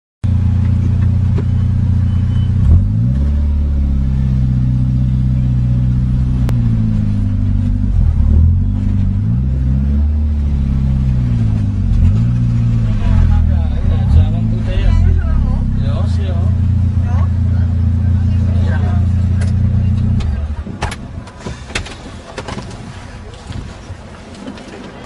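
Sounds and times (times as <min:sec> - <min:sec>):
car engine accelerating: 0:00.2 - 0:21.3.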